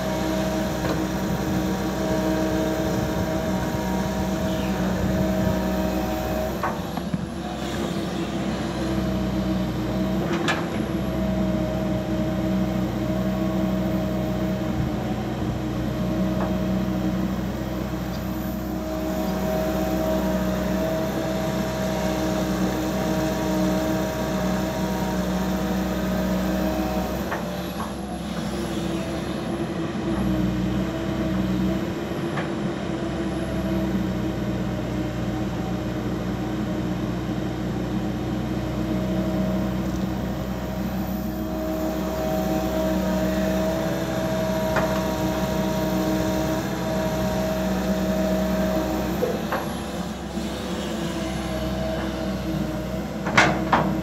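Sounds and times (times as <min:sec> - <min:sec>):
hydraulic whine: 0:00.0 - 0:36.7, 0:38.7 - 0:54.0
excavator diesel engine running: 0:00.0 - 0:54.0.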